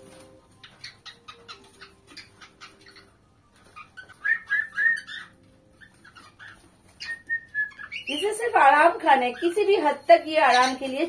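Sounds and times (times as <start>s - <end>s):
cockatiels chirping: 0.5s - 8.6s, 9.2s - 11.0s.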